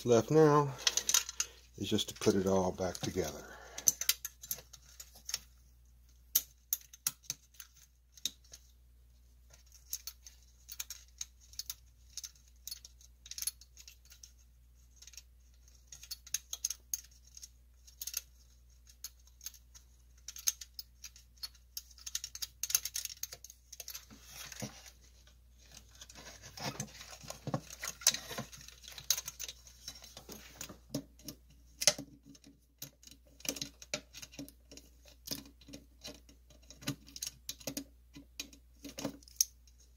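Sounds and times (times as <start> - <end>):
rustling and clatter: 0.0 - 39.9
plastic and metal parts clicking: 0.3 - 5.6, 9.5 - 39.9.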